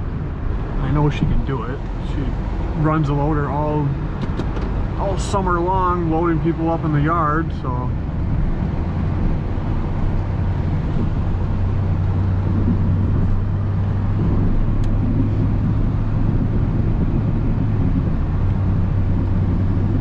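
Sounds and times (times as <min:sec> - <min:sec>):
low engine hum: 0:00.0 - 0:20.0
road noise: 0:00.0 - 0:20.0.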